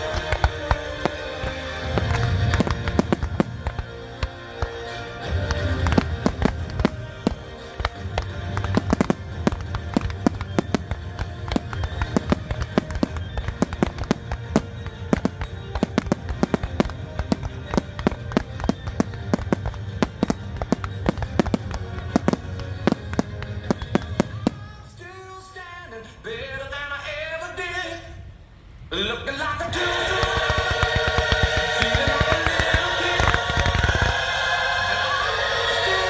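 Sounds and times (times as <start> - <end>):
music soundtrack: 0.0 - 25.4, 29.5 - 36.0
fireworks bursting: 0.0 - 27.3, 28.6 - 36.0.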